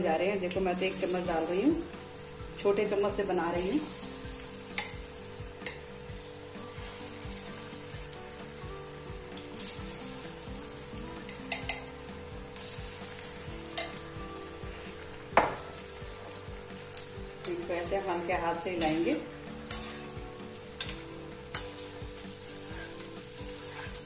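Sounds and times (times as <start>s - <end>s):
oil sizzling and bubbling: 0.0s - 24.0s.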